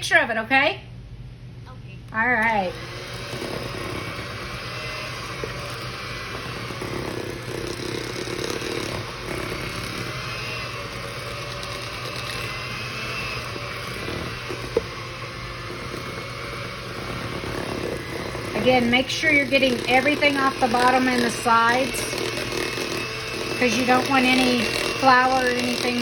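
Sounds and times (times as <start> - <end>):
electric hand mixer running: 2.4 - 26.0.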